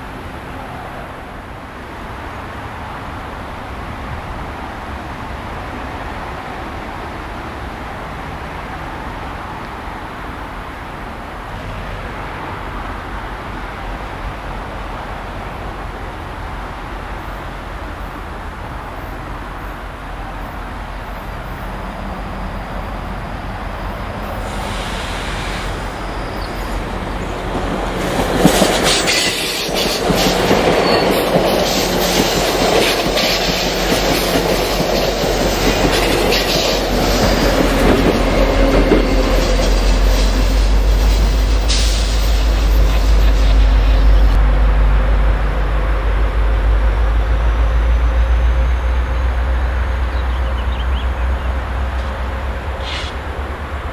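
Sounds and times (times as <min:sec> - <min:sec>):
diesel locomotive drone: 0:00.0 - 0:53.9
train rumble and rush: 0:00.0 - 0:53.9.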